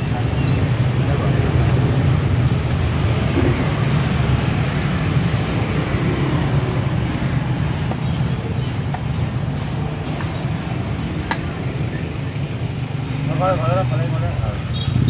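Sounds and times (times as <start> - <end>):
traffic hiss: 0.0 - 14.9.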